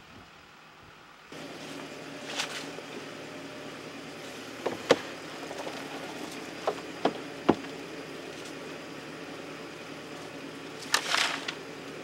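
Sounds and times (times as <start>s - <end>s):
tractor engine running: 1.2s - 12.0s.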